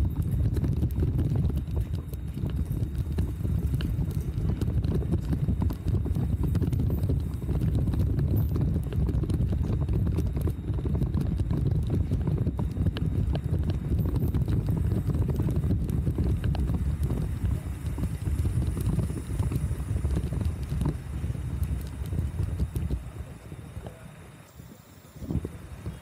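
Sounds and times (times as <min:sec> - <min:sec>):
bicycle rolling rumble: 0:00.0 - 0:26.0.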